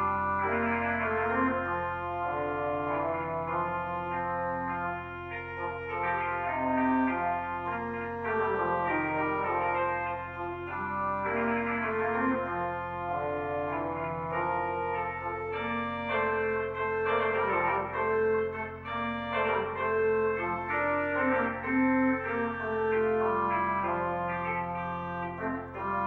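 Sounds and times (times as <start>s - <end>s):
organ playing slow chords: 0.0s - 26.0s.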